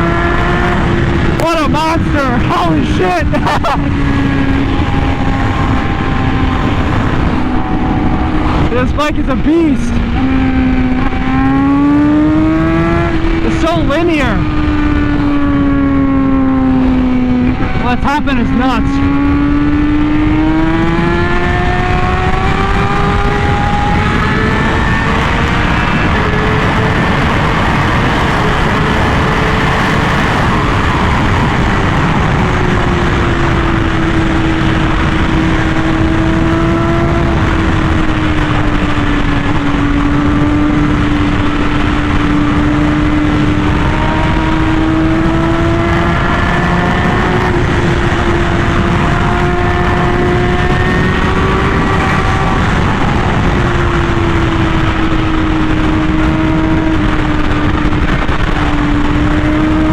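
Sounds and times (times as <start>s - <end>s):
motorcycle engine at high speed: 0.0s - 59.9s
wind and road noise: 0.0s - 59.9s.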